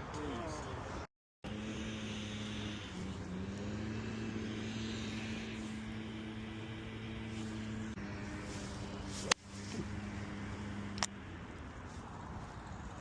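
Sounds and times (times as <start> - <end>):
engine humming: 1.4 - 13.0.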